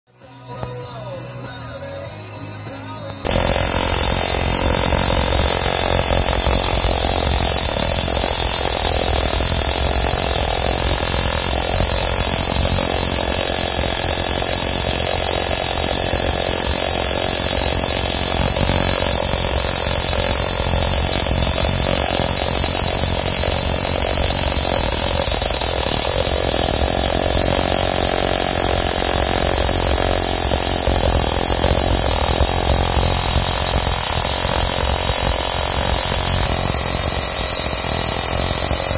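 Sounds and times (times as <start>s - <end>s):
tesla coil buzzing hiss: 3.2s - 38.9s.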